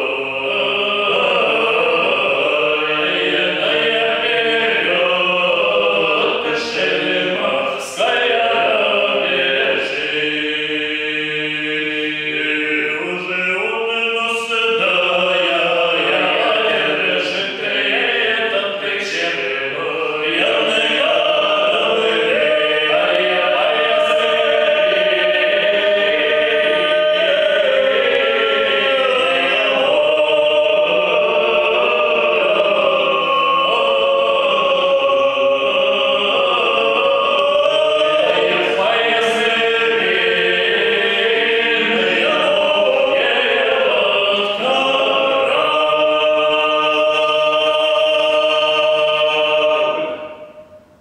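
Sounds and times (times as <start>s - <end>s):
men singing a cappella harmony: 0.0s - 50.3s.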